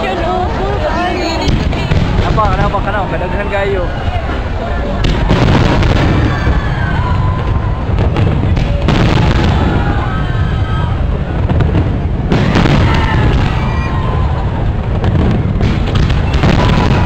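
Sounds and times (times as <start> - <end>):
fireworks booming and crackling: 0.0 - 17.0.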